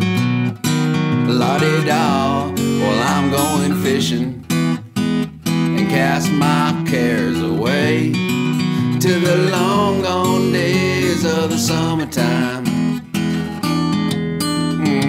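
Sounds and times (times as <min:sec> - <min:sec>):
country song with acoustic guitar: 0:00.0 - 0:15.0.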